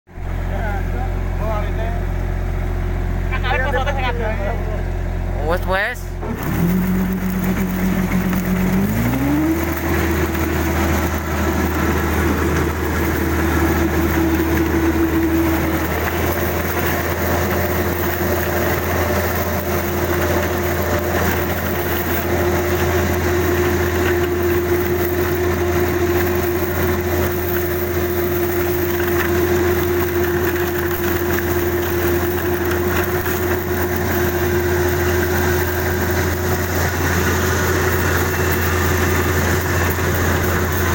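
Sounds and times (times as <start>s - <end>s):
diesel engine running: 0.1s - 40.9s.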